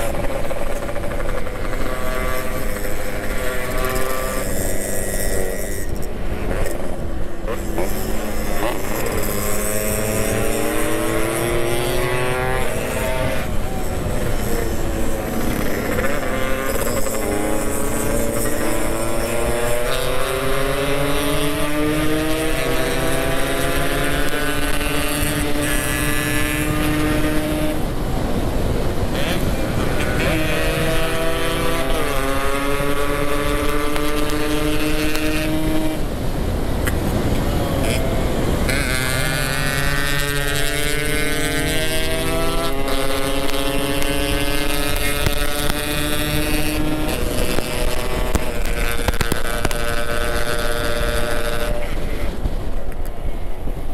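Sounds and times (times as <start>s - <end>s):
motorcycle engine shifting gears: 0.0s - 53.9s.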